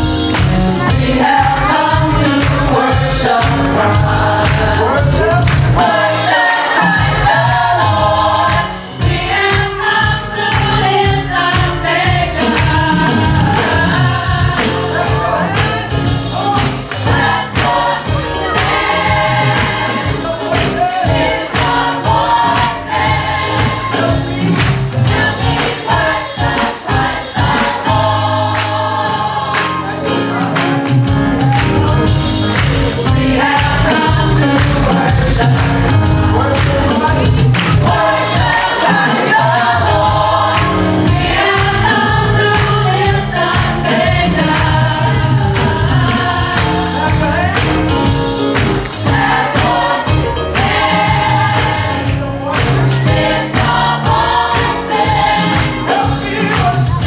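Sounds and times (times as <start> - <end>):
band with beat and bass: 0.0 - 57.0
gospel choir singing: 0.0 - 57.0.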